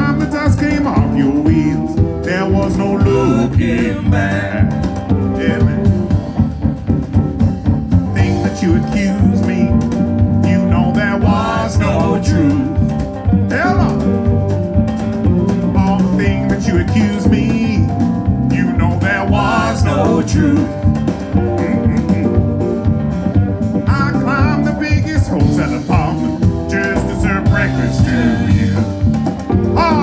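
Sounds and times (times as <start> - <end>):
blues band playing: 0.0 - 30.0
drum beat: 0.0 - 30.0
guitar: 0.0 - 30.0.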